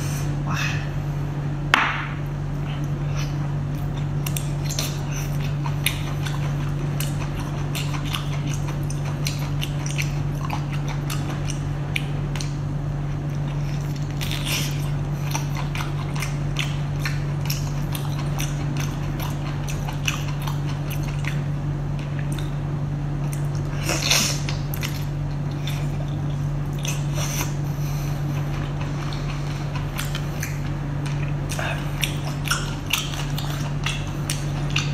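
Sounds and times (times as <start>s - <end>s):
low steady hum: 0.0s - 34.9s
wet chewing and biting: 2.8s - 22.6s, 23.2s - 34.9s.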